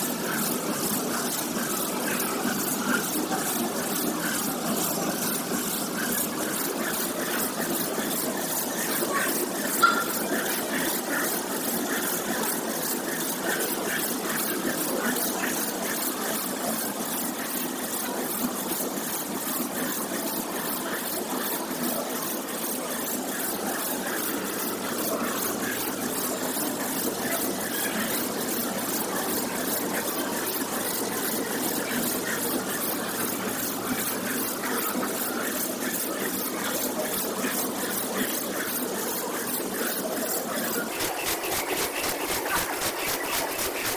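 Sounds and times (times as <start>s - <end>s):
conveyor and packing machinery: 0.0s - 43.9s.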